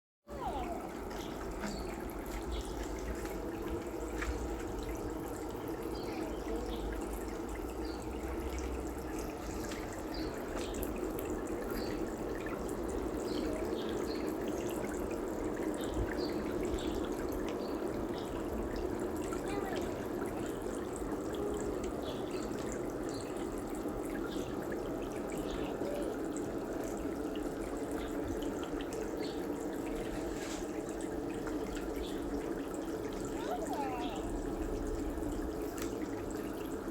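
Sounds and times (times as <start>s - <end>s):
small water drips: 0.3s - 36.9s
water trickling: 0.3s - 36.9s.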